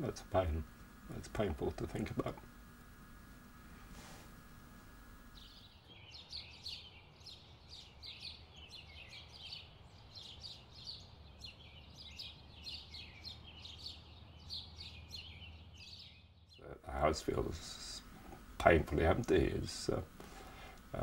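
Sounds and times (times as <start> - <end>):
birds chirping: 0.0 - 21.0
faint low hum: 0.0 - 21.0.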